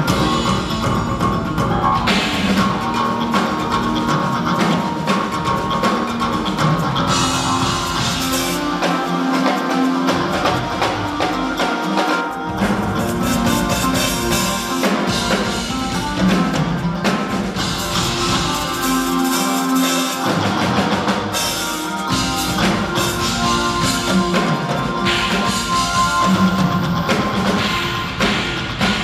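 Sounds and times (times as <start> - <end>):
drum kit solo: 0.0 - 29.0.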